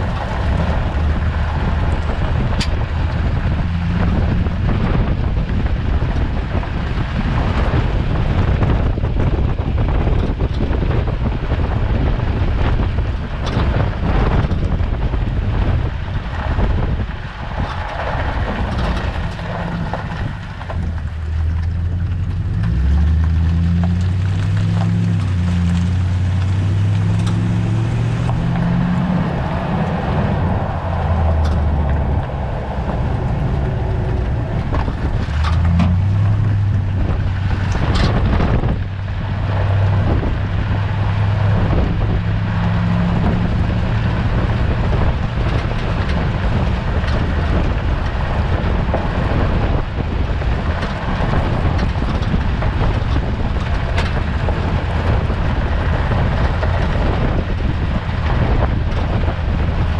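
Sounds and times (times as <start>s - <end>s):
engine and road noise: 0.0s - 59.9s
rattling in vehicle: 0.0s - 59.9s.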